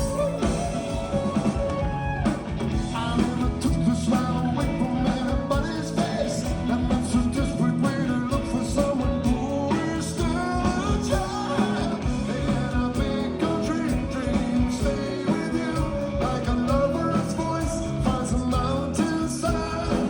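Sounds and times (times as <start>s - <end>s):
live rock band playing: 0.0s - 20.0s
person singing: 0.0s - 20.0s
steady drum beat: 0.0s - 20.0s.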